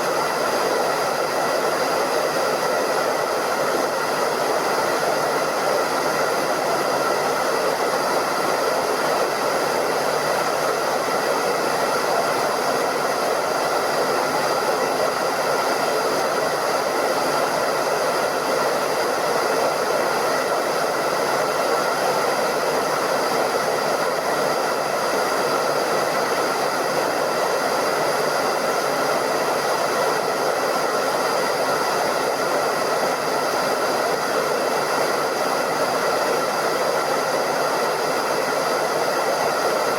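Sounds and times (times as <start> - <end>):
hairdryer running: 0.0 - 39.9.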